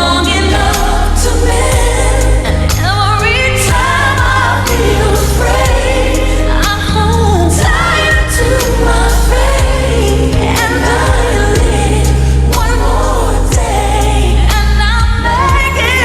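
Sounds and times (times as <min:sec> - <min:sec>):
backing voices singing: 0:00.0 - 0:16.0
band playing pop ballad: 0:00.0 - 0:16.0
woman singing: 0:00.0 - 0:16.0.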